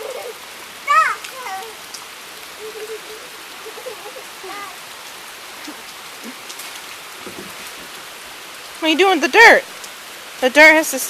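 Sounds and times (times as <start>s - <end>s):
distant voices calling out: 0.0s - 9.6s
steady rain falling: 0.0s - 11.0s.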